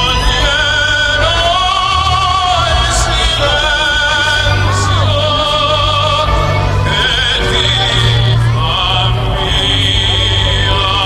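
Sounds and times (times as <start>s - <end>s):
operatic voice singing: 0.0s - 11.0s
steady bass line: 0.0s - 11.0s.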